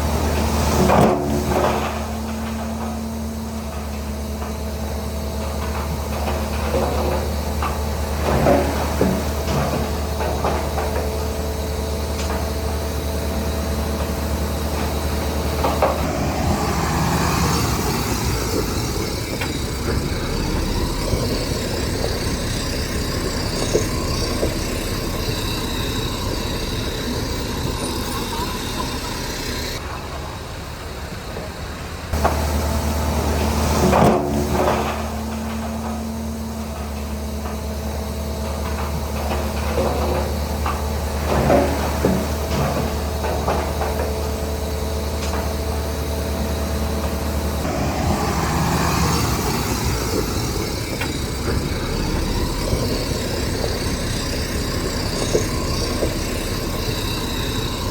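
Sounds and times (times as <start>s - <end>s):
diesel machinery engine running: 0.0s - 57.9s.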